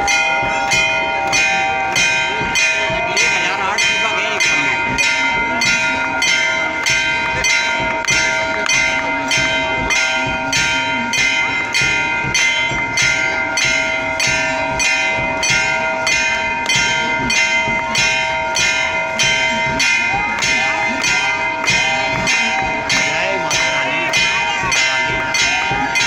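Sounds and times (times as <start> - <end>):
temple bells ringing: 0.0 - 26.0.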